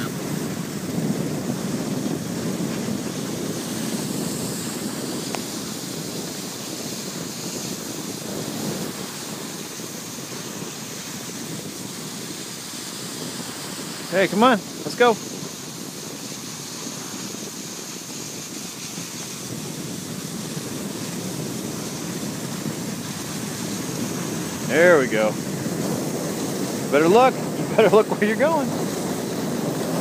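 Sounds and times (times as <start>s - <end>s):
skis sliding over snow: 0.0s - 30.0s
wind noise on microphone: 0.0s - 30.0s.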